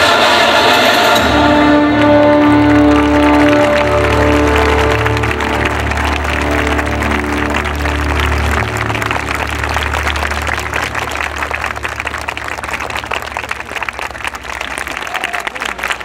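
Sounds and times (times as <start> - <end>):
audience applauding: 0.0 - 16.0
music with held low notes: 1.2 - 14.6.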